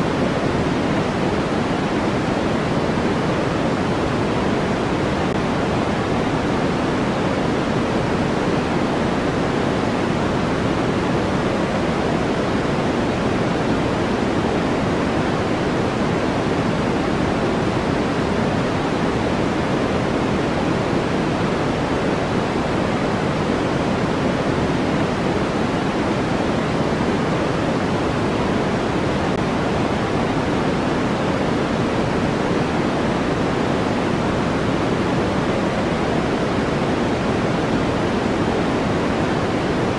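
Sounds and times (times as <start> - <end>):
white noise rushing hiss: 0.0 - 39.9.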